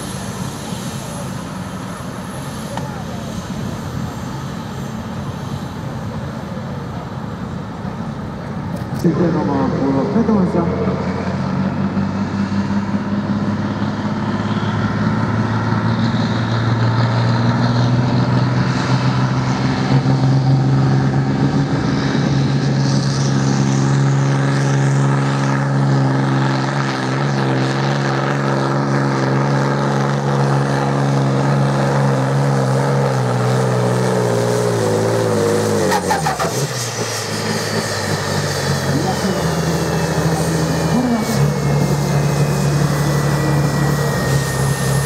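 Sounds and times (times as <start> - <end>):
vehicle engine at high revs: 7.7 - 45.0.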